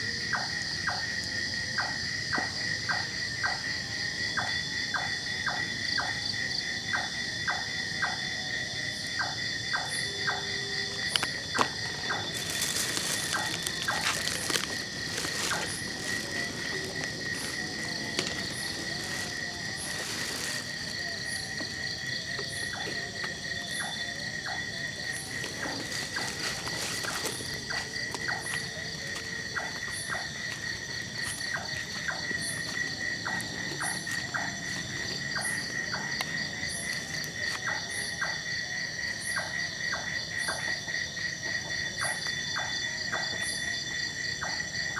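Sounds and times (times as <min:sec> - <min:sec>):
insects trilling: 0:00.0 - 0:44.9
clicking frog calls: 0:00.3 - 0:03.7, 0:04.3 - 0:38.6, 0:39.2 - 0:40.8, 0:41.4 - 0:43.8, 0:44.4 - 0:44.7.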